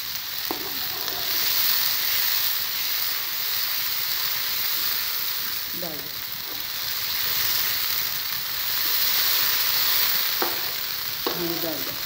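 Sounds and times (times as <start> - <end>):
masala sizzling in pan: 0.0 - 12.0.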